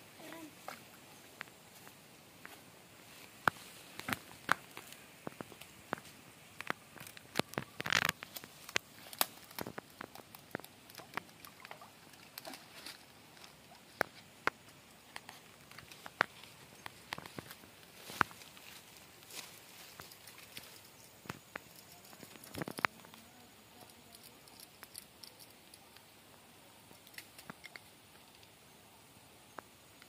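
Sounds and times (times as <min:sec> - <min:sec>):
rustling of leafy plants: 0:00.0 - 0:25.5.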